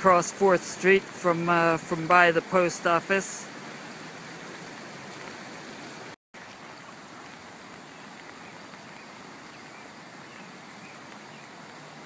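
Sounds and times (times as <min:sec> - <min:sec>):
flooded creek rushing: 0:00.0 - 0:12.0.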